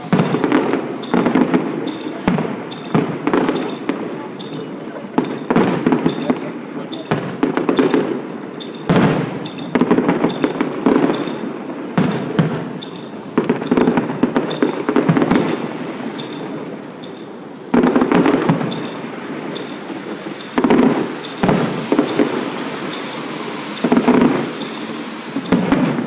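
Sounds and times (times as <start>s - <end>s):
fireworks crackling bursts: 0.0s - 26.0s.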